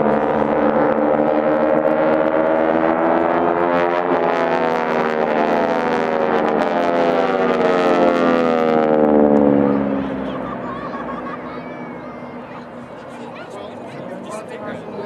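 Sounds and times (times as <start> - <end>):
propeller planes droning overhead: 0.0 - 15.0.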